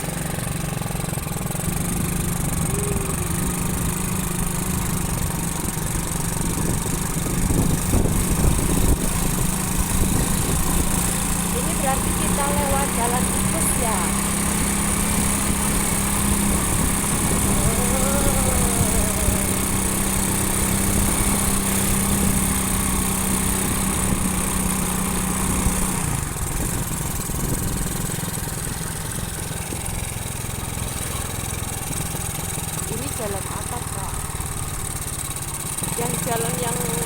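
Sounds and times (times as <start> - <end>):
motorcycle engine running: 0.0 - 37.0
road and wind noise: 0.0 - 37.0.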